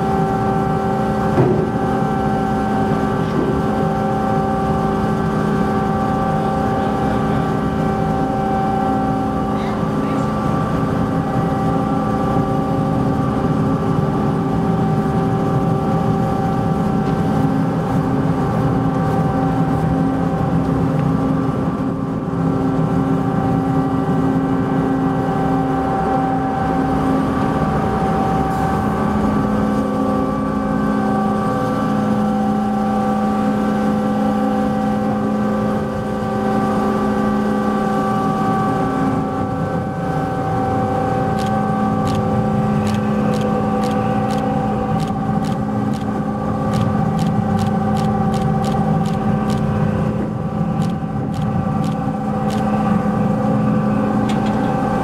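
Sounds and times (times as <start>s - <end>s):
ferry machinery humming: 0.0s - 55.0s.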